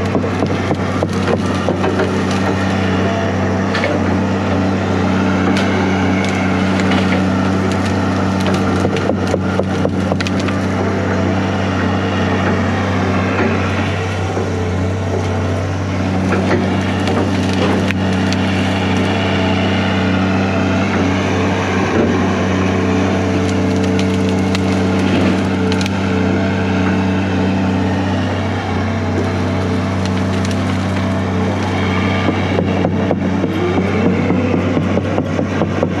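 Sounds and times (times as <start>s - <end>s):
excavator diesel engine running: 0.0s - 36.0s
wood cracking and splintering: 0.0s - 36.0s.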